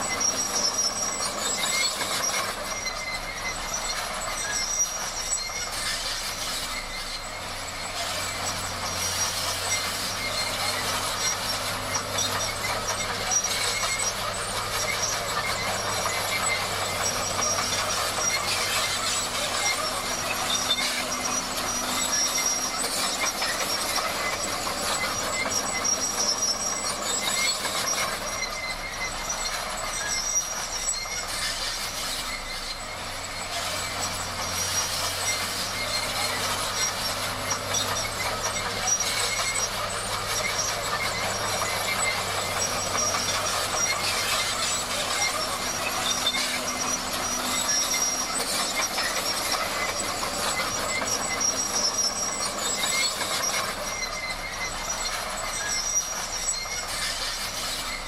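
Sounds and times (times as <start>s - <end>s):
bulldozer engine hum: 0.0s - 58.0s
high squealing machine: 0.0s - 58.0s.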